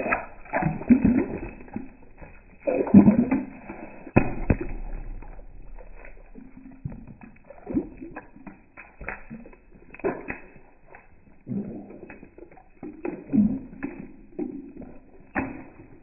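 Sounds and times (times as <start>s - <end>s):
liquid splattering: 0.0s - 16.0s.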